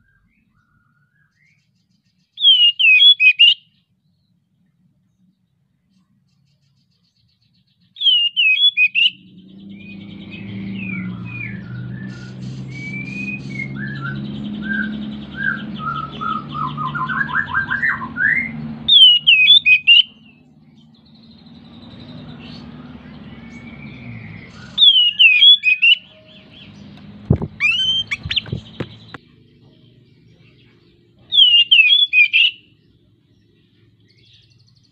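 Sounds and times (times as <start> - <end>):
bird singing: 0.0 - 34.9.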